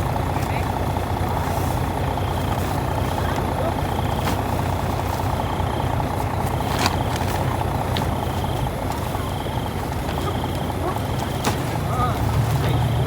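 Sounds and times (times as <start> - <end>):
harvester engine rumbling: 0.0 - 13.0.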